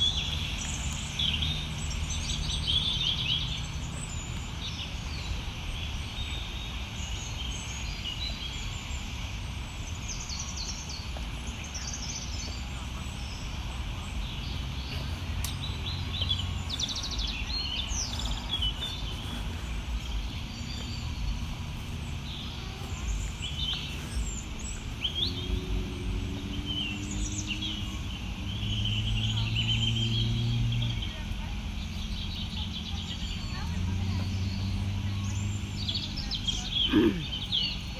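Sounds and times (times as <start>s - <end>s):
birds chirping: 0.0s - 37.9s
low droning hum: 0.0s - 37.9s
low outdoor rumble: 0.0s - 37.9s.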